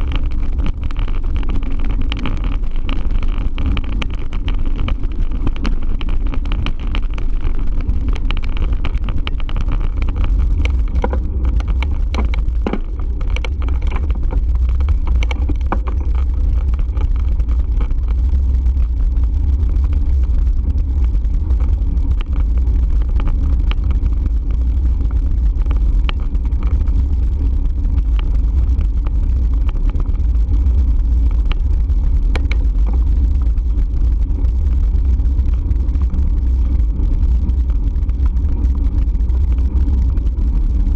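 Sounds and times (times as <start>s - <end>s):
small clicks and rattles: 0.0s - 40.9s
wind noise on microphone: 0.0s - 40.9s.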